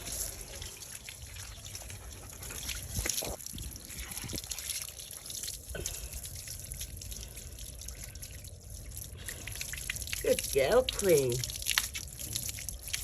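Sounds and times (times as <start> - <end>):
small water splashes: 0.0 - 13.0
water trickling and dripping: 0.0 - 13.0.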